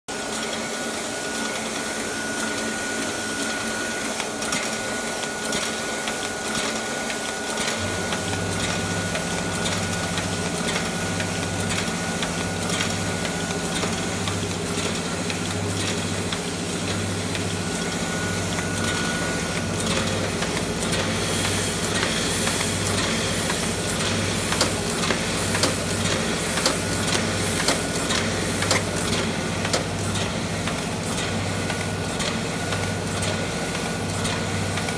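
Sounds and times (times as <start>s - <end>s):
printing press clatter: 0.2s - 34.9s.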